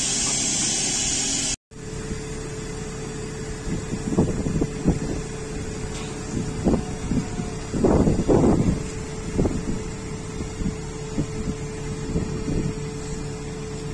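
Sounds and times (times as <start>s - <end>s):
forklift running with hiss: 0.0s - 13.9s.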